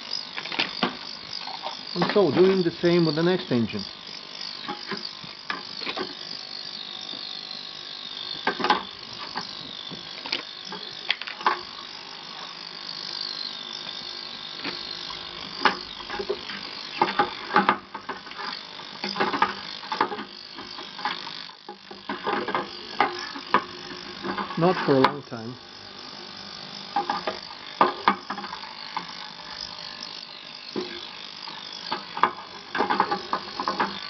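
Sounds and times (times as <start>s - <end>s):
ultrasonic cleaner buzzing: 0.0s - 34.0s.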